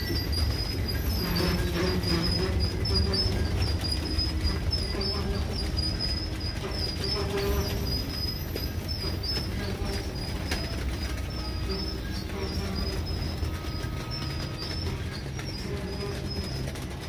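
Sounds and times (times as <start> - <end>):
high-pitched whine: 0.0 - 17.0
train wheels rumbling on rail: 0.0 - 17.0
wheel clicks: 0.0 - 17.0.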